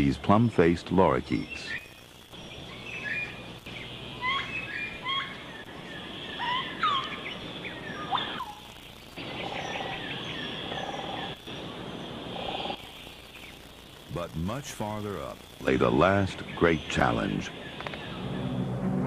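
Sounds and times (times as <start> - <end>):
lorikeets calling and chattering: 0.0 - 18.6.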